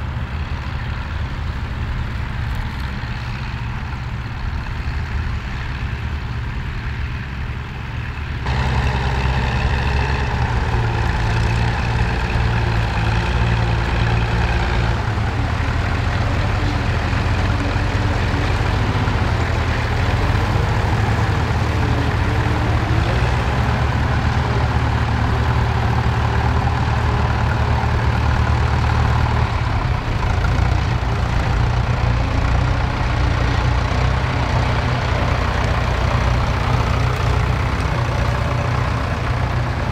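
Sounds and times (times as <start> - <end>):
tractor engines droning: 0.0 - 39.9.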